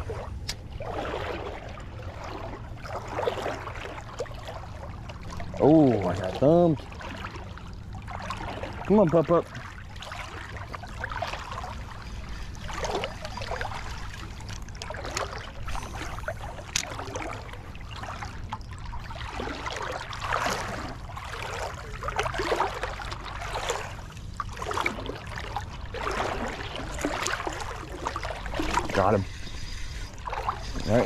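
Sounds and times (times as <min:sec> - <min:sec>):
river water trickling and splashing: 0:00.0 - 0:31.0.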